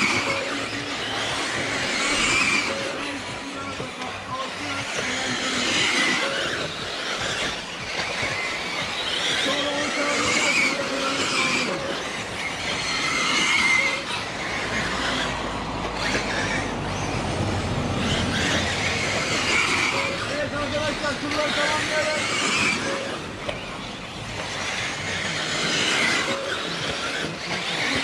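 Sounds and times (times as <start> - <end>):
model car motors whining: 0.0 - 28.0.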